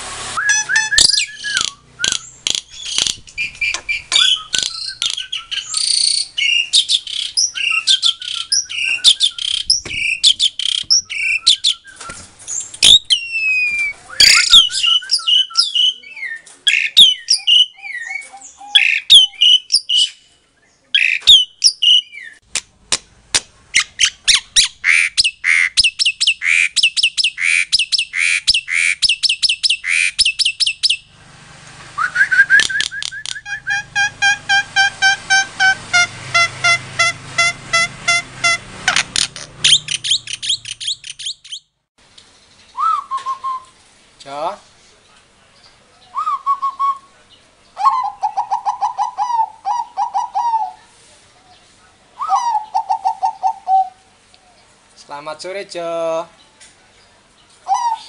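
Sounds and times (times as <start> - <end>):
songbird singing: 0.4 - 31.3, 31.9 - 58.0.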